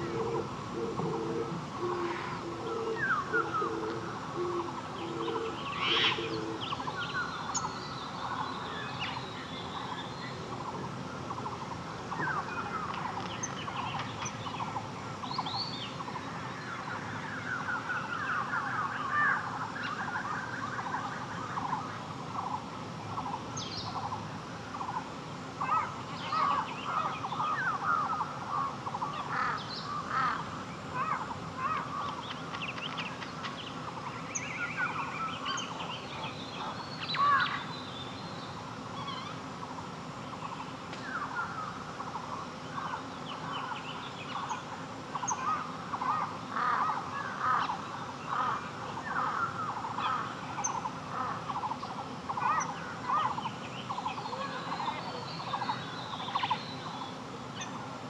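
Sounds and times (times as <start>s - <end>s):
birds chirping: 0.0s - 58.0s
low background hiss: 0.0s - 58.0s.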